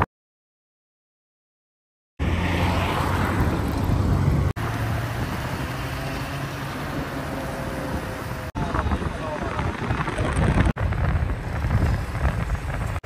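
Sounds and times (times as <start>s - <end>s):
vehicle and road noise: 2.2s - 13.0s.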